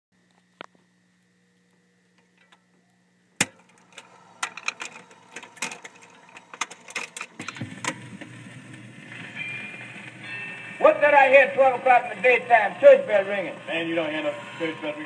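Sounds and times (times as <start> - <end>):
record crackling and popping: 0.2 - 13.6
faint steady hum: 0.2 - 15.0.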